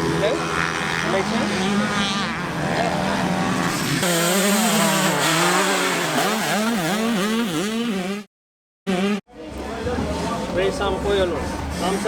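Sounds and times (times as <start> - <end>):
motocross bike engine revving: 0.0 - 8.3, 8.9 - 12.0.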